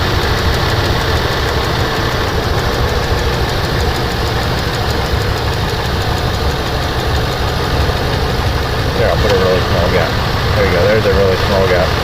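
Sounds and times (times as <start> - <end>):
car engine idling with misfire: 0.0 - 12.0.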